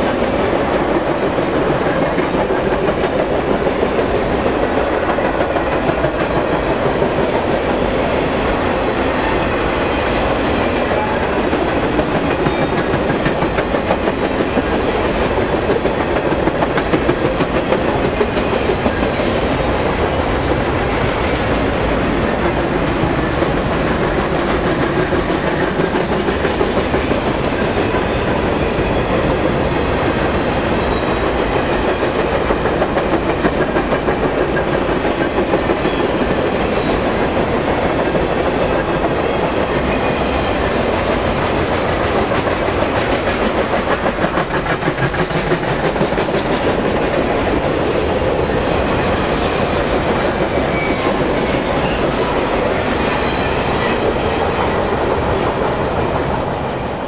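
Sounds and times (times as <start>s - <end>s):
wheels clacking over rails: 0.0s - 56.6s
freight train rumbling past: 0.0s - 57.0s.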